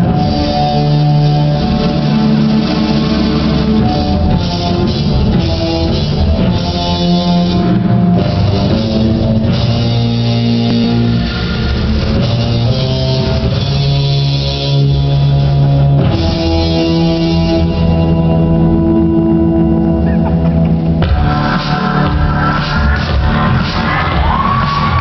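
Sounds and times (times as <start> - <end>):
loud rock music: 0.0 - 25.0.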